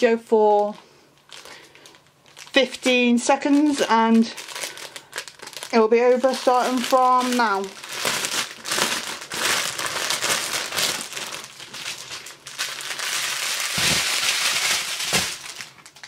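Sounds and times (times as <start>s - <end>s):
plastic packaging crinkling: 0.5s - 16.0s.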